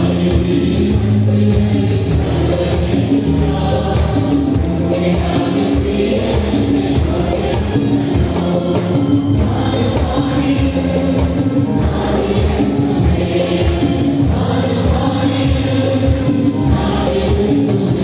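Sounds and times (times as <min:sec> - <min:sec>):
people singing: 0:00.0 - 0:18.0.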